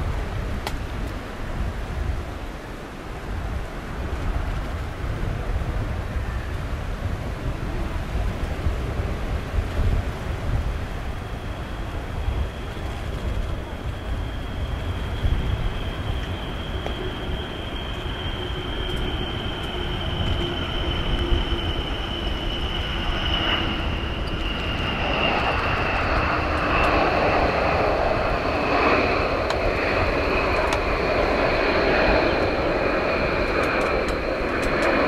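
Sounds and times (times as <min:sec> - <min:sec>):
high jet whine: 0:00.0 - 0:35.0.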